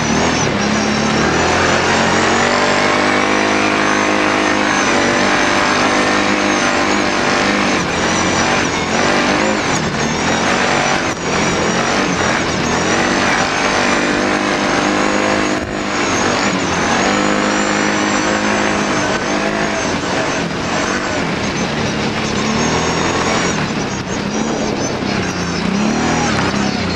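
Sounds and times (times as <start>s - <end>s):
atv engine revving: 0.0s - 26.9s.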